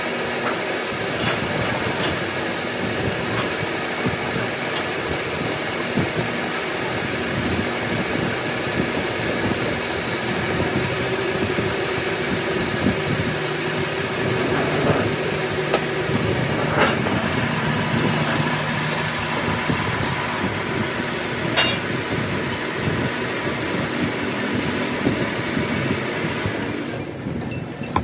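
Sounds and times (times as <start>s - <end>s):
machine running: 0.0s - 27.1s.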